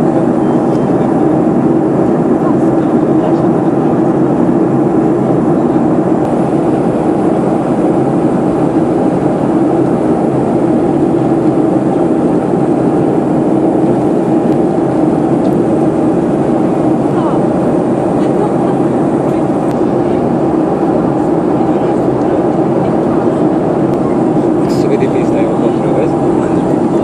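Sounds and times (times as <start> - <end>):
airliner cabin engine drone: 0.0 - 27.0
constant low hum: 0.0 - 27.0
rushing airflow: 0.0 - 27.0.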